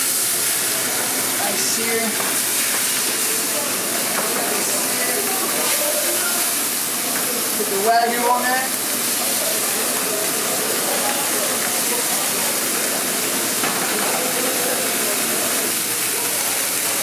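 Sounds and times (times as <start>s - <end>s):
steaks sizzling on griddle: 0.0s - 17.0s.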